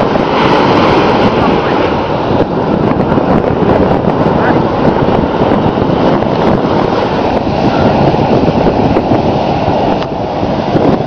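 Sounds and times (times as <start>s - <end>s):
ocean surf rushing: 0.0s - 11.0s
wind on microphone: 0.0s - 11.0s.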